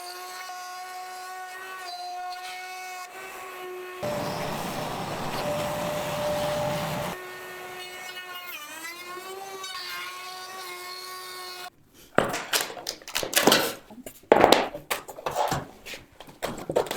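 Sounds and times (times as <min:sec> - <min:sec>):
power saw cutting board: 0:02.3 - 0:16.9.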